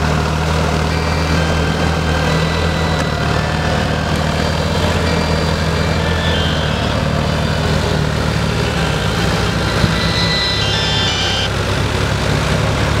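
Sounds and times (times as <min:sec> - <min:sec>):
thin high whine: 0:00.0 - 0:12.1
diesel tractor engine running: 0:00.0 - 0:13.0.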